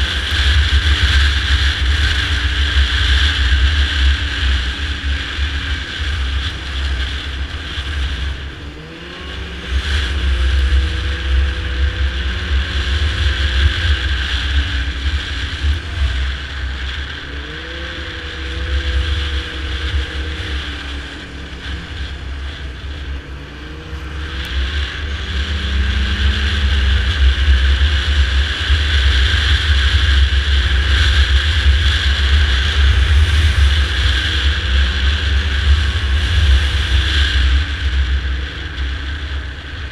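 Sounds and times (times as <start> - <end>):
heavy low rumble: 0.0 - 39.9
snowmobile engine running: 0.0 - 39.9.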